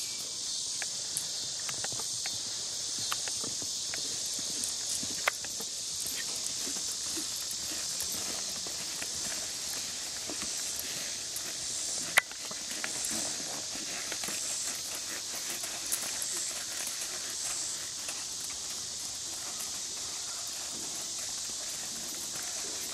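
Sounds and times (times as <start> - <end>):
steady high hiss: 0.0 - 22.9
horse hoofbeats on dirt: 0.9 - 22.9.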